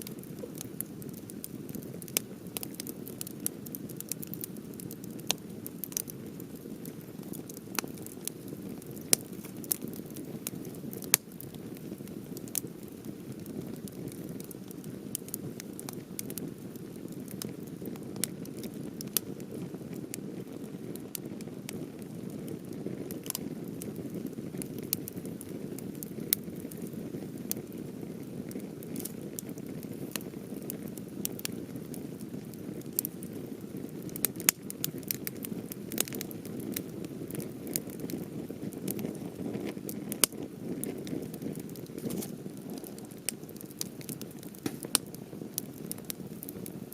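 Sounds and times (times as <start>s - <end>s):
low rush of flame: 0.0s - 46.9s
wood crackling and popping: 0.0s - 46.9s.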